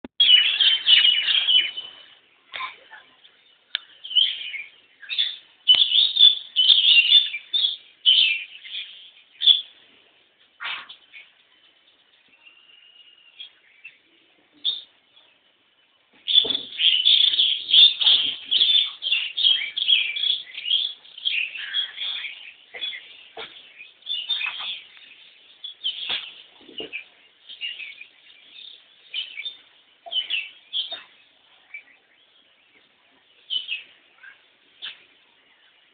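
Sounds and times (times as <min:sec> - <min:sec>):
small bird chirping: 0:00.2 - 0:09.8, 0:10.6 - 0:35.9.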